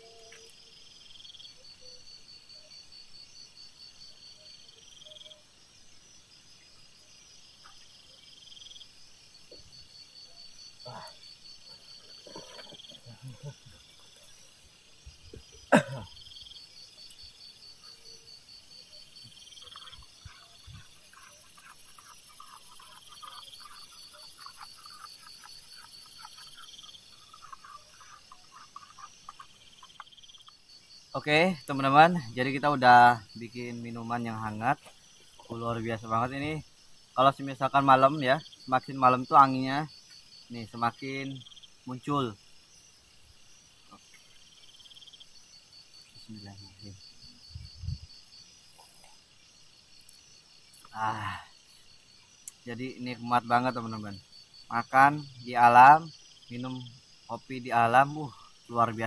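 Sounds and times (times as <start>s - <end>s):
faint steady hiss: 0.0s - 59.0s
frogs croaking: 0.0s - 59.0s
night insects trilling: 0.0s - 59.0s.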